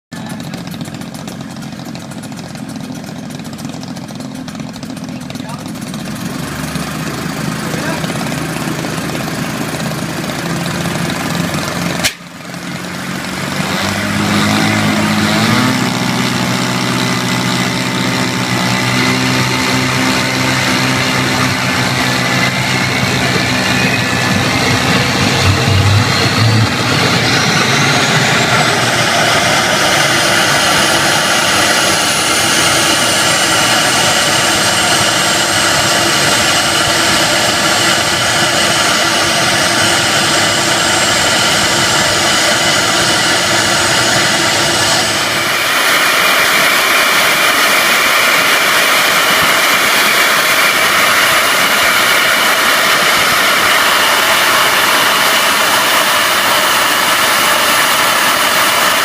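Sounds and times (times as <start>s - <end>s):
jet engine whine: 0.1s - 59.0s
jet engine rushing noise: 6.3s - 59.0s.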